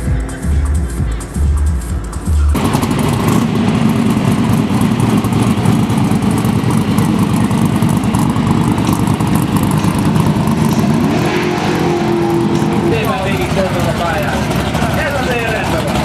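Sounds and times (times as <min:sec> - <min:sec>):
car engine idling rough: 0:00.0 - 0:16.0.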